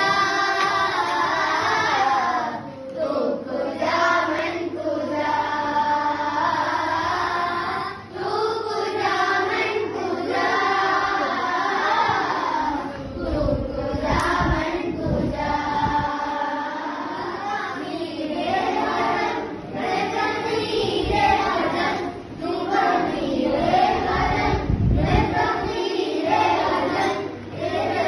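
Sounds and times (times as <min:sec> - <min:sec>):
children singing in chorus: 0:00.0 - 0:28.0.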